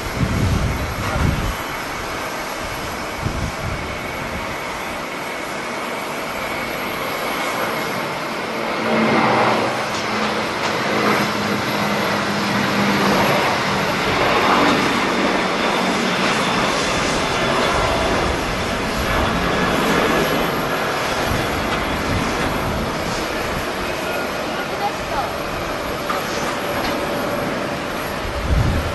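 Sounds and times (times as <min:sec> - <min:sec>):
jet engines rushing: 0:00.0 - 0:28.9.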